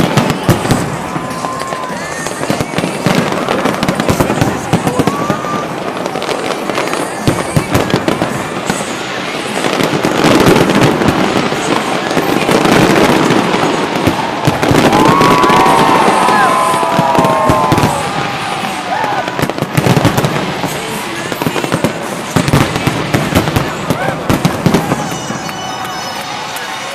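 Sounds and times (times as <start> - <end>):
fireworks bangs and crackling: 0.0 - 26.9.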